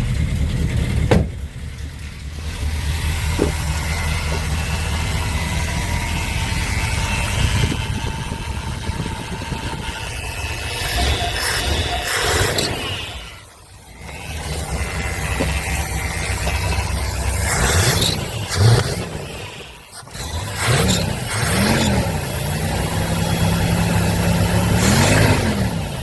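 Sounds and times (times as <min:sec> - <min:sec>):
car engine running with throttle blips: 0:00.0 - 0:26.0.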